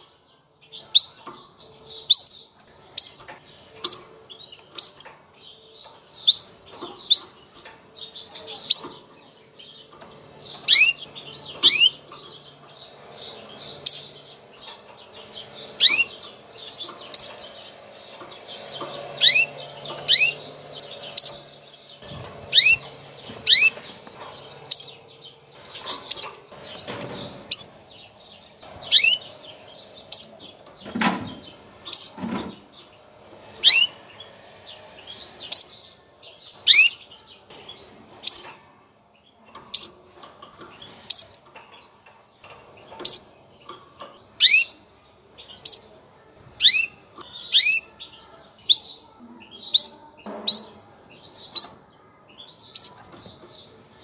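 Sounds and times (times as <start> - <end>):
canary chirping: 0.0 - 54.0.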